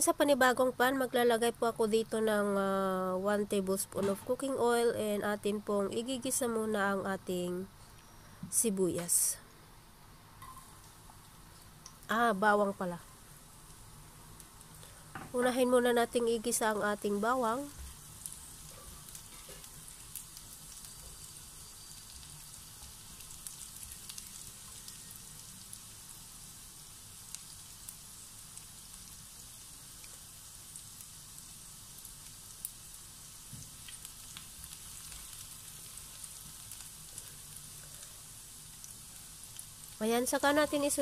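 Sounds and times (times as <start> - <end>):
garlic sizzling in oil: 0.0 - 41.0.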